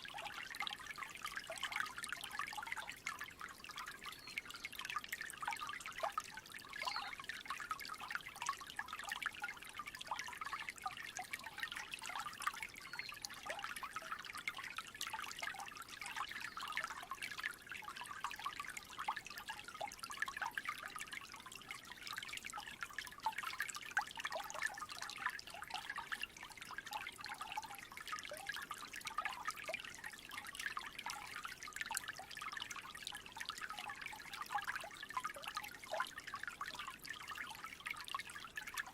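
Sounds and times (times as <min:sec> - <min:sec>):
creek trickling: 0:00.0 - 0:38.9.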